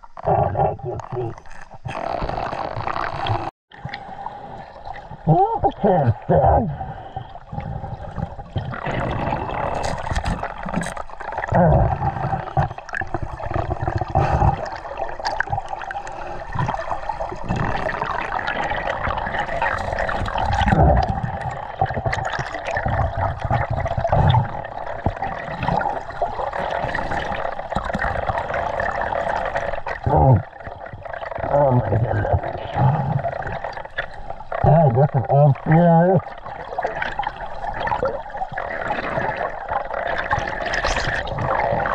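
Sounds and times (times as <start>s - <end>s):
muffled underwater gurgling: 0.0s - 41.9s.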